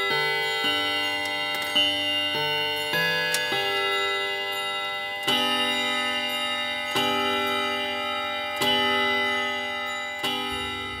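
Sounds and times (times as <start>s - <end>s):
wall clock striking: 0.0s - 11.0s.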